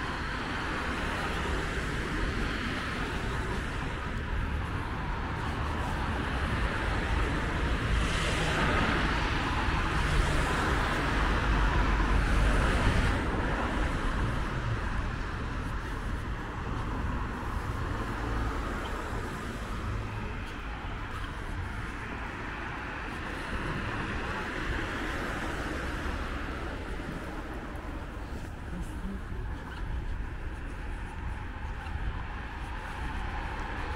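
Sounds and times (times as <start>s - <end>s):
cars passing: 0.0s - 33.9s.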